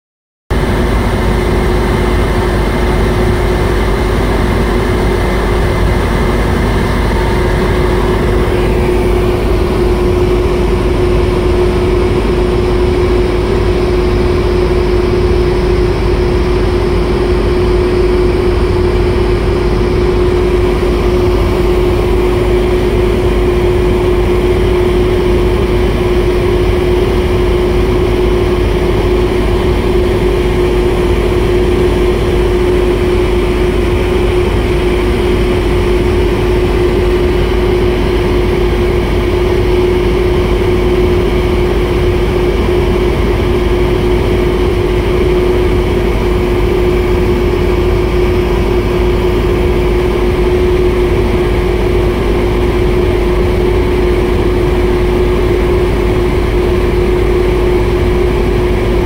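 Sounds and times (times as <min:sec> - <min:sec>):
diesel engine droning: 0:00.5 - 0:59.0.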